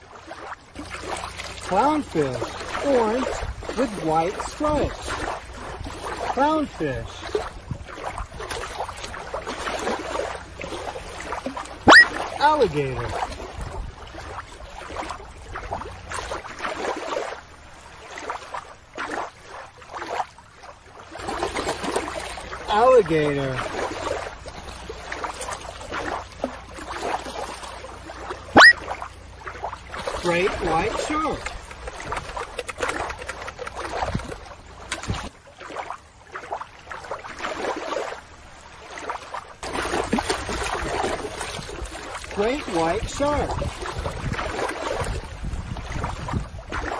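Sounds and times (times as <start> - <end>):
water splashing and lapping: 0.0 - 46.9.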